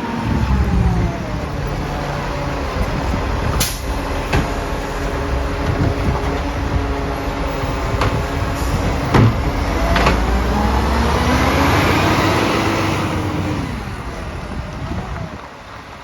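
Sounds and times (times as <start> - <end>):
diesel truck engine revving: 0.0 - 16.0.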